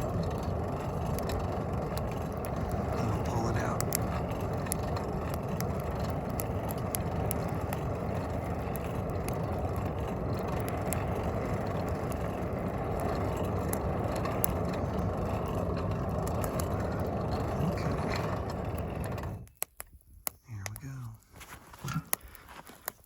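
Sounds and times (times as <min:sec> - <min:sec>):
fire crackling and popping: 0:00.0 - 0:23.0
fire rushing in a forge: 0:00.0 - 0:23.0.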